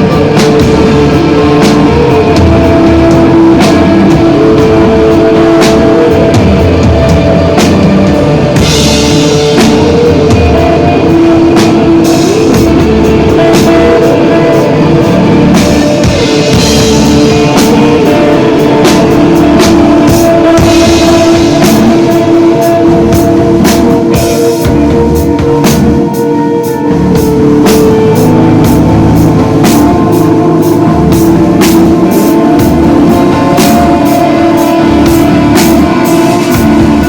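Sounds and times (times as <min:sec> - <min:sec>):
drum kit steady beat: 0:00.0 - 0:37.0
electric guitar sustained notes: 0:00.0 - 0:37.0.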